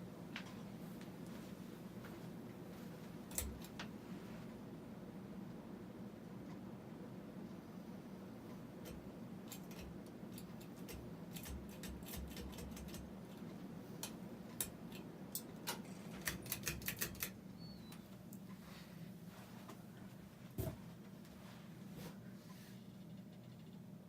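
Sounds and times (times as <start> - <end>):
ceiling fan motor hum: 0.0 - 24.0.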